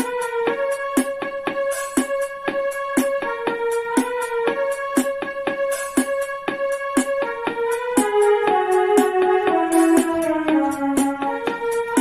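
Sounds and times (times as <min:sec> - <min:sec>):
electronic keyboard melody: 0:00.0 - 0:12.0.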